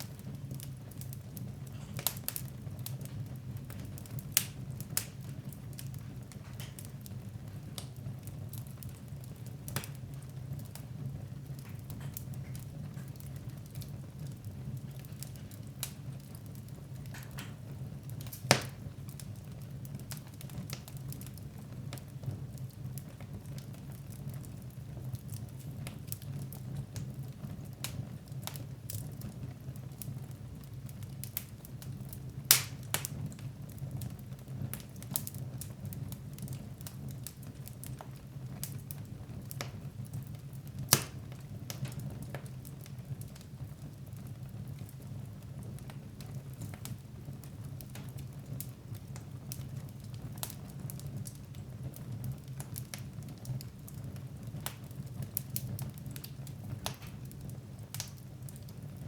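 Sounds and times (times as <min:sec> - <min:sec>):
loud fire pops: 0:00.0 - 0:58.9
fire crackling in fireplace: 0:00.0 - 0:59.0.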